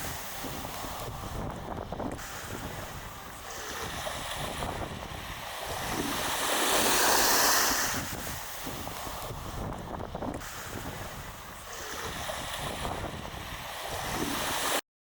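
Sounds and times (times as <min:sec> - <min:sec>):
surf: 0:00.0 - 0:14.8
wind: 0:00.0 - 0:14.8.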